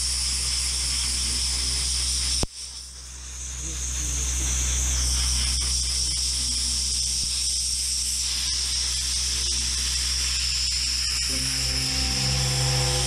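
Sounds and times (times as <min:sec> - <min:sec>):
sandblaster hissing: 0:00.0 - 0:13.0.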